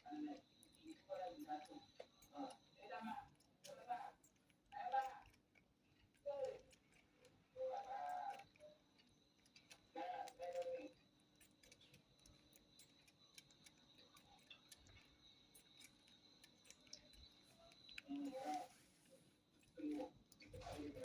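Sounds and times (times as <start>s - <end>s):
faint ticking clicks: 0.0s - 21.0s.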